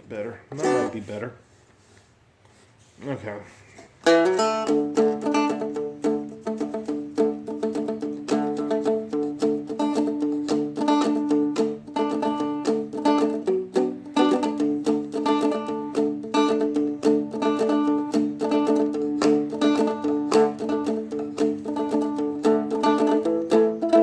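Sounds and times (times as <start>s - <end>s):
strumstick strummed with drone strings: 4.0s - 24.0s.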